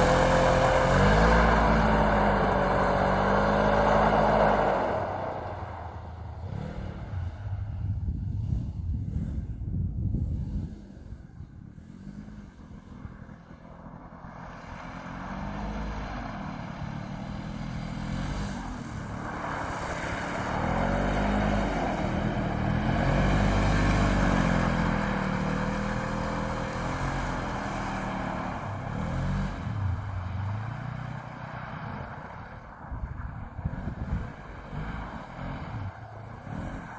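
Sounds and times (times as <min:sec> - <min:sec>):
side-by-side engine revving: 0:00.0 - 0:36.9.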